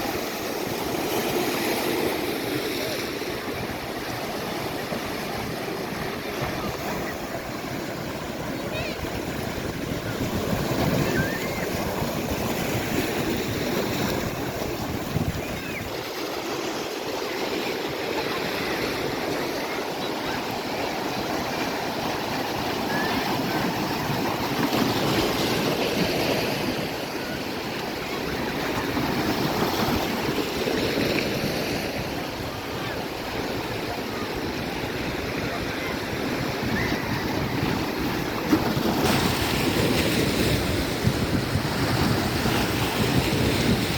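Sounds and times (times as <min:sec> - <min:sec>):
ocean surf washing onto beach: 0:00.0 - 0:43.9.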